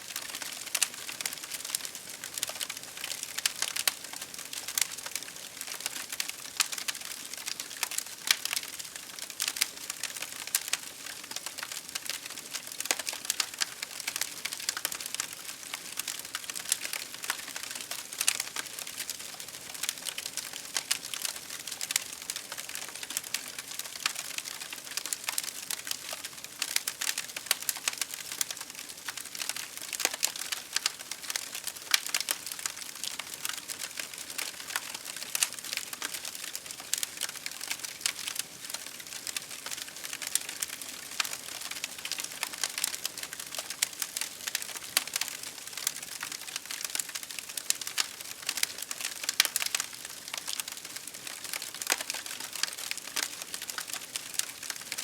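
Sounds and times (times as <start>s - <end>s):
rain falling: 0.0s - 55.0s
campfire crackling: 0.1s - 55.0s.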